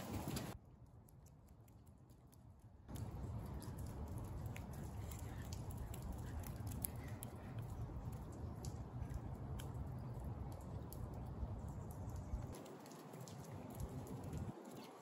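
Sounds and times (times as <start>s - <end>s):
bare feet on wet asphalt: 0.0s - 15.0s
wind rumble on microphone: 2.9s - 15.0s.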